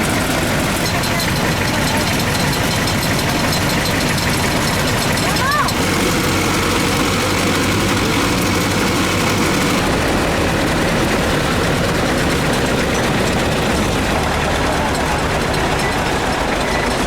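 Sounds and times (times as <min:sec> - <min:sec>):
constant wash of noise: 0:00.0 - 0:17.0
vehicle engine running: 0:00.0 - 0:17.0.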